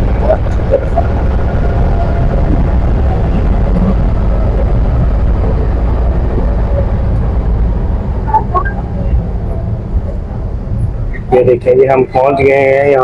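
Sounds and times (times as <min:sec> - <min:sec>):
cable car rumble: 0:00.0 - 0:13.0
faint steady whine: 0:00.0 - 0:13.0.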